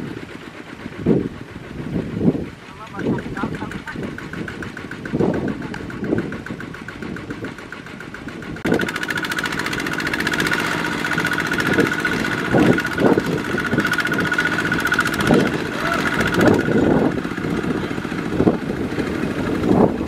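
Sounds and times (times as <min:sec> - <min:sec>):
diesel engine chugging under load: 0:00.0 - 0:20.0.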